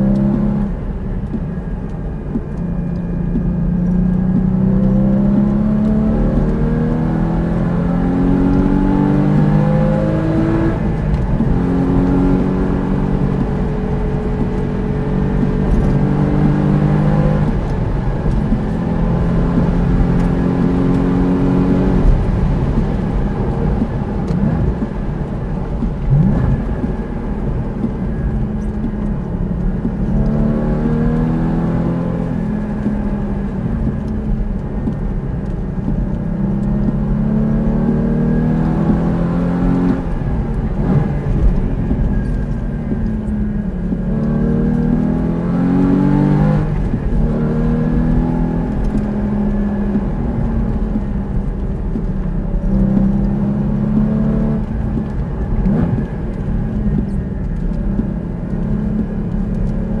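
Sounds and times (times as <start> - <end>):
sports car engine revving: 0.0 - 60.0.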